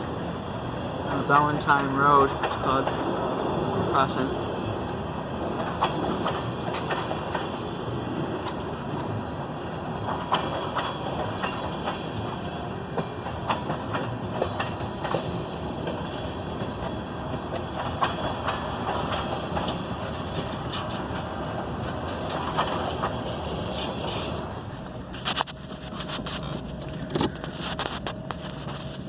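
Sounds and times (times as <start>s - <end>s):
freight train wheels rumbling: 0.0s - 29.0s
wheels and couplings clanking: 0.0s - 29.0s.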